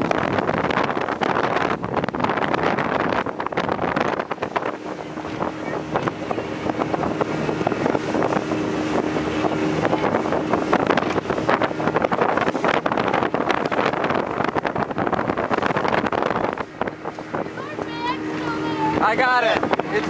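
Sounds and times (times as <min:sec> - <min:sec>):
boat over choppy water: 0:00.0 - 0:20.0
motorboat engine drone: 0:00.0 - 0:20.0
wind buffeting microphone: 0:00.0 - 0:20.0.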